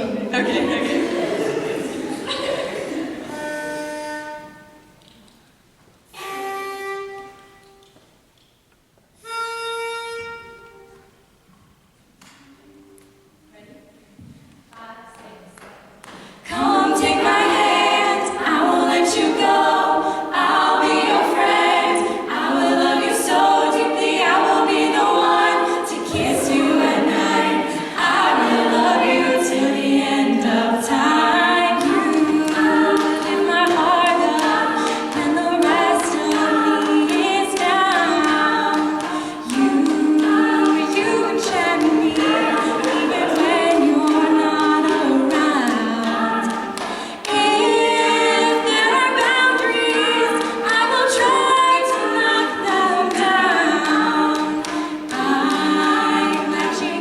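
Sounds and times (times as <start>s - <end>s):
women's a cappella group singing: 0.0s - 3.9s, 14.7s - 57.0s.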